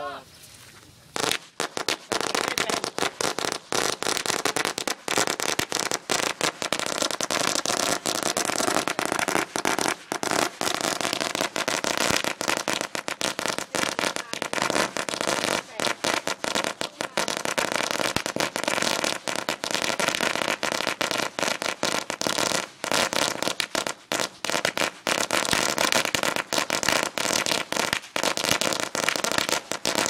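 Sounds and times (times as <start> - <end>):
firecrackers crackling: 1.1 - 30.0.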